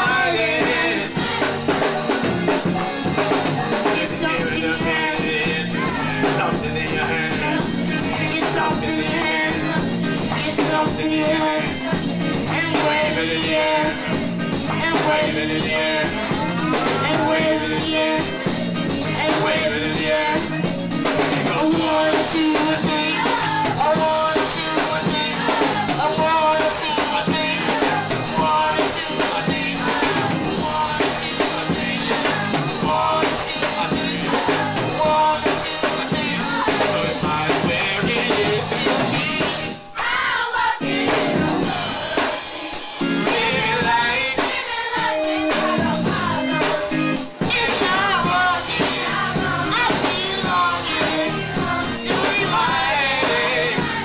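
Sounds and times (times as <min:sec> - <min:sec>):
girl soloist singing: 0:00.0 - 0:14.1, 0:21.5 - 0:54.0
drums: 0:00.0 - 0:54.0
gospel choir singing: 0:00.0 - 0:54.0
keyboard: 0:00.0 - 0:54.0.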